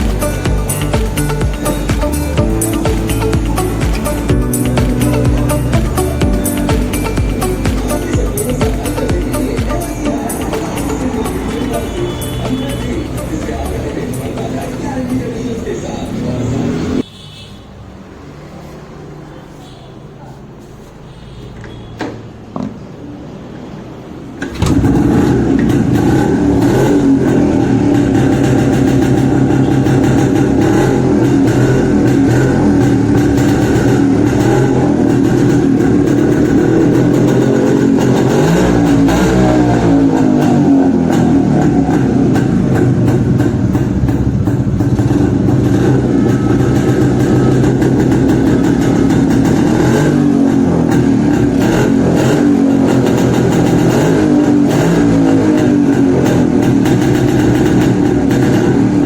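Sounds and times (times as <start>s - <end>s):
two-stroke motorcycle engine revving: 0.0s - 17.1s, 24.4s - 59.0s.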